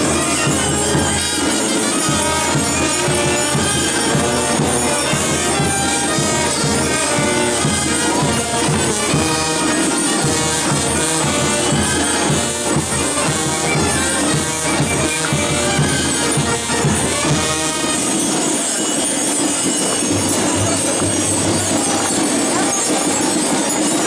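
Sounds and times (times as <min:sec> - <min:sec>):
belt bells jingling: 0:00.0 - 0:24.0
brass band with drums: 0:00.0 - 0:24.0
crowd chatter: 0:00.0 - 0:24.0.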